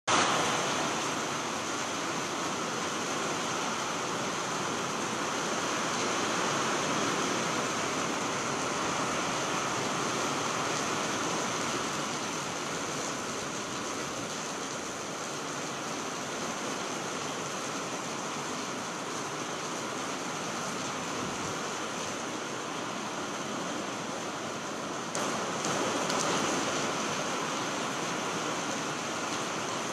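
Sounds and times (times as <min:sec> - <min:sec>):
heavy rain pouring: 0:00.1 - 0:29.9.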